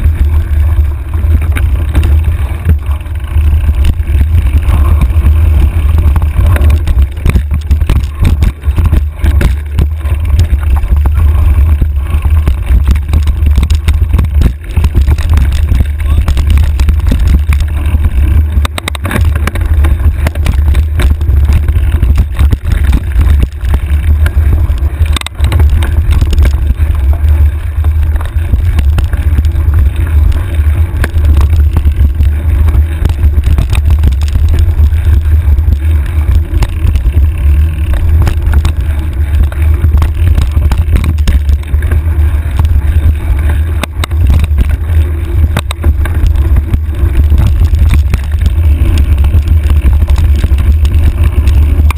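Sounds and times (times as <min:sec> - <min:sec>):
bike clicks and rattles: 0:00.0 - 0:51.9
wind buffeting microphone: 0:00.0 - 0:51.9.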